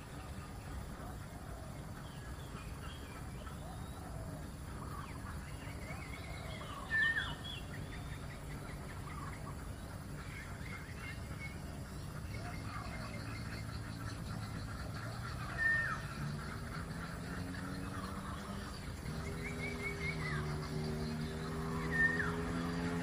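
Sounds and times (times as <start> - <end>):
birds chirping and calling: 0.0 - 23.0
low steady background noise: 0.0 - 23.0.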